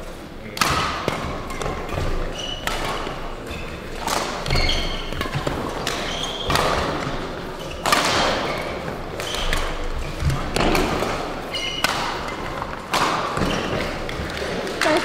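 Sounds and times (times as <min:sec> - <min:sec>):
rackets hitting shuttlecock: 0:00.5 - 0:15.0
shoes squeaking on court floor: 0:01.5 - 0:15.0.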